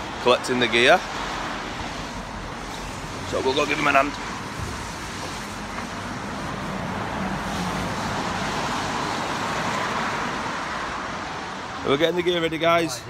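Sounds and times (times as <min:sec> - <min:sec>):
car passing: 0:00.0 - 0:13.0
road traffic: 0:00.0 - 0:13.0.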